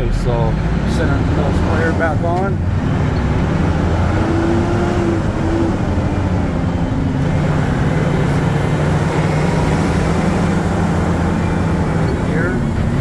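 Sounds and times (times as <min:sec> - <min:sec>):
diesel truck engine running: 0:00.0 - 0:13.0
road noise: 0:00.0 - 0:13.0.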